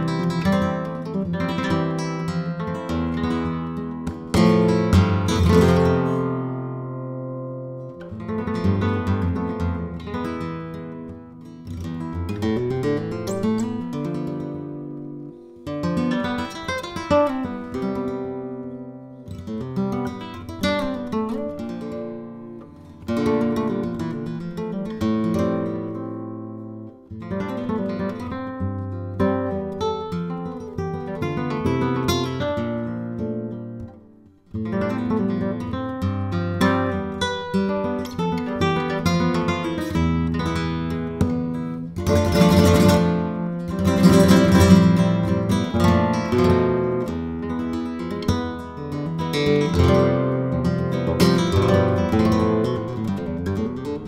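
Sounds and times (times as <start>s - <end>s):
flamenco guitar playing: 0.0s - 54.0s.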